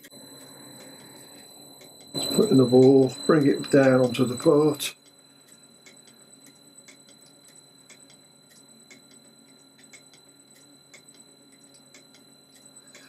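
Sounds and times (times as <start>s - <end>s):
faint irregular ticking: 0.0s - 13.0s
high-pitched whine: 0.0s - 13.0s
low hum: 0.0s - 13.0s.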